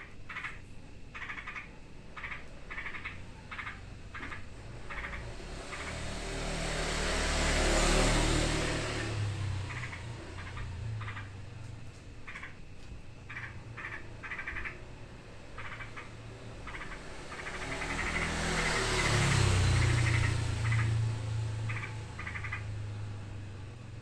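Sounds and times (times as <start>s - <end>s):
birds rattling alarm chatters: 0.0s - 24.0s.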